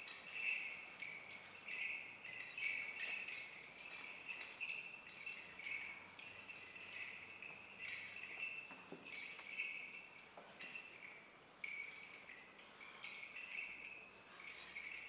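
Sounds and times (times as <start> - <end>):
small bells jingling: 0.0 - 15.0.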